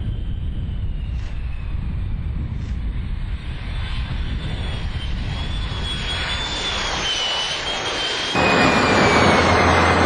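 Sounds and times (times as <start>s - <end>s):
jet engine roar with whine: 0.0s - 10.0s.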